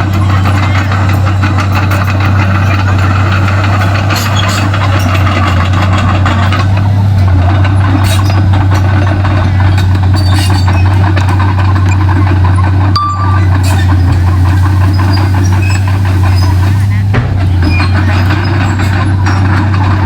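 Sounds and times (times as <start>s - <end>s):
bulldozer diesel engine droning: 0.0s - 20.0s
machine clanks and rattles: 0.0s - 20.0s.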